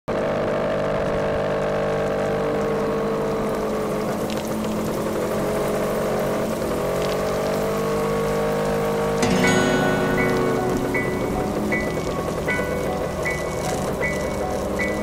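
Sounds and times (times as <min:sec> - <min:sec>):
small scooter engine running: 0:00.1 - 0:15.0.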